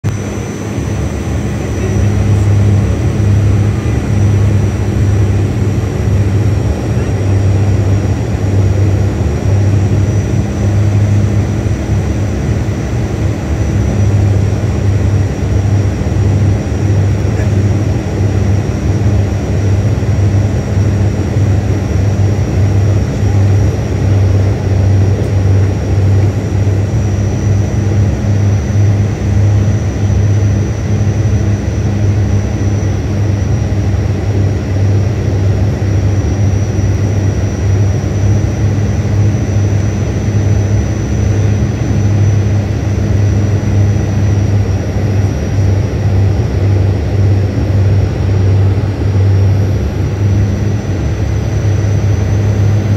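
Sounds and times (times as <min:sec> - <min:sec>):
propellers deep steady hum: 0:00.0 - 0:52.9.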